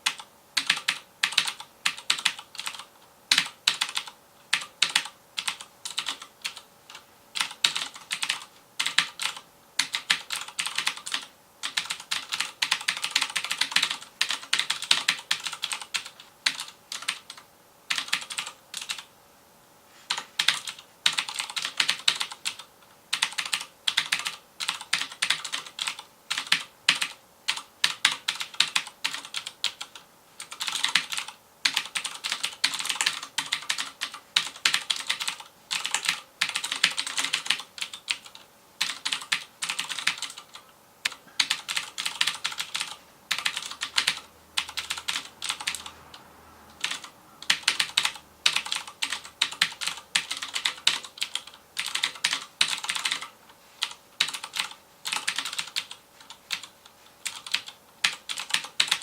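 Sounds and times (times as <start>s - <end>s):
mechanical keyboard typing: 0.0s - 19.1s, 20.1s - 46.0s, 46.8s - 59.0s.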